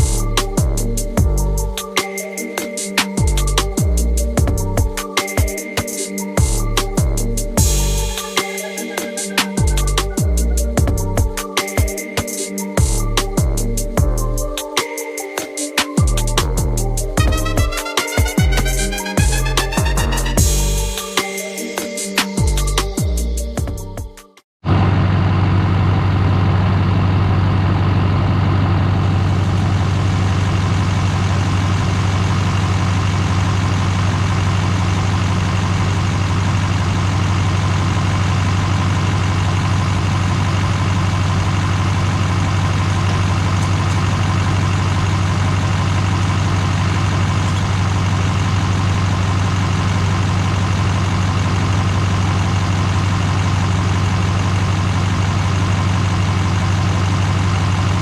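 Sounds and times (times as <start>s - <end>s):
diesel engine idling: 0.0s - 14.7s, 16.0s - 21.0s, 24.6s - 58.0s.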